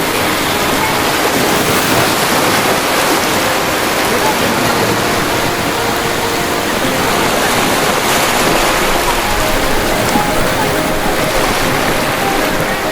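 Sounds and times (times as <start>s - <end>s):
ocean waves breaking: 0.0s - 12.9s.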